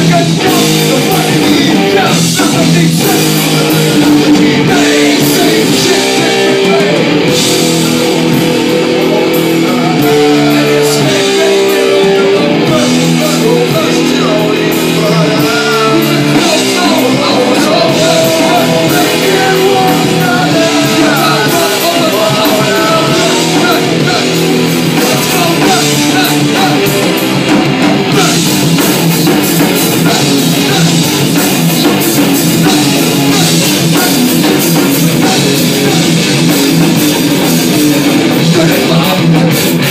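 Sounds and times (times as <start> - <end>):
person singing into a microphone: 0.0 - 27.2, 28.1 - 39.9
bass guitar: 0.0 - 39.9
drum kit: 0.0 - 39.9
electric guitar: 0.0 - 39.9.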